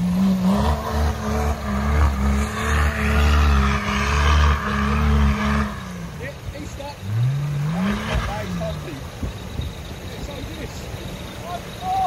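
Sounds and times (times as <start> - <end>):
diesel engine revving hard: 0.0 - 11.2.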